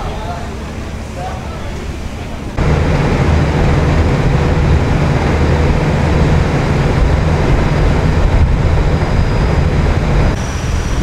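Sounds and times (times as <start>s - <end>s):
ferry engines droning: 0.0s - 11.0s
wind and water rushing: 1.9s - 11.0s.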